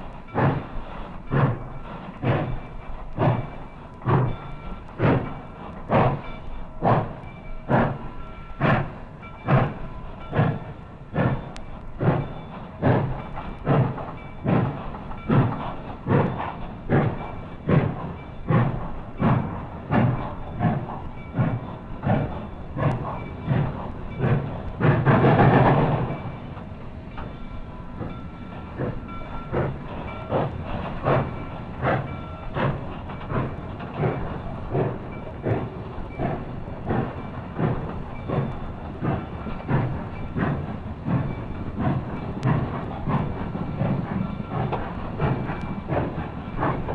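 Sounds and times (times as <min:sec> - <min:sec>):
loud steam hiss: 0:00.0 - 0:46.9
steam locomotive chuffing: 0:00.0 - 0:46.9.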